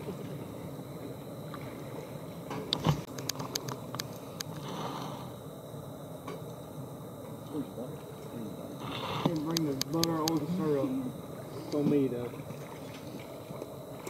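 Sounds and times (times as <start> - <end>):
steady hiss: 0.0 - 12.4.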